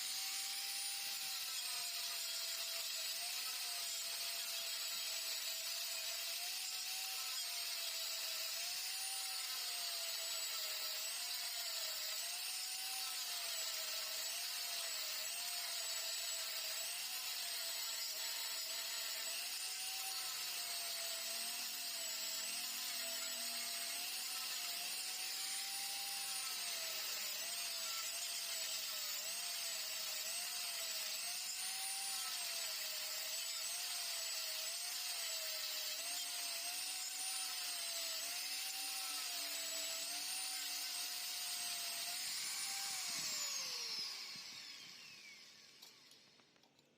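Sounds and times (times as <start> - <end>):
electric power tool motor whining: 0.0 - 46.8.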